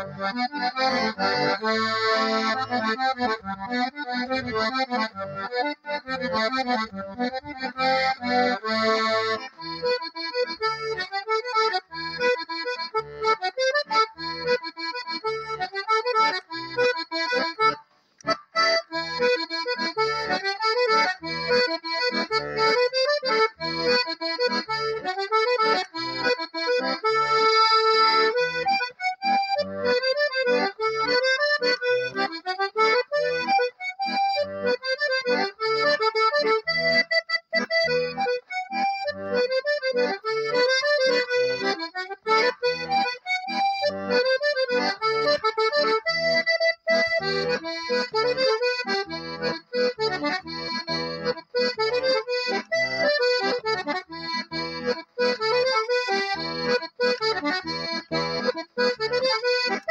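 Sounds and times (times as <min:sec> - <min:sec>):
button accordion playing: 0:00.0 - 0:59.9.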